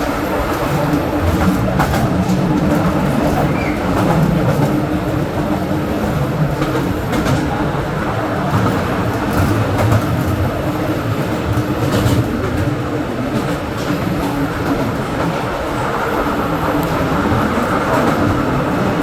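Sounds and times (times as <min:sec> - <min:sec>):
train cars rumbling on rails: 0:00.0 - 0:19.0.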